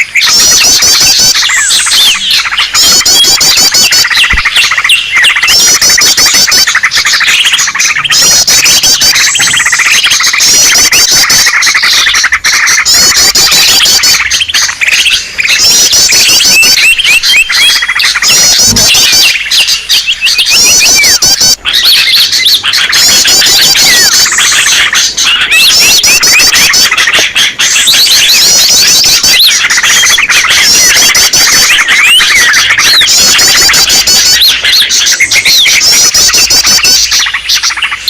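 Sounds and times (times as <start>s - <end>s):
high fast bird trill: 0.0s - 38.0s
songbirds chirping chorus: 0.0s - 38.0s.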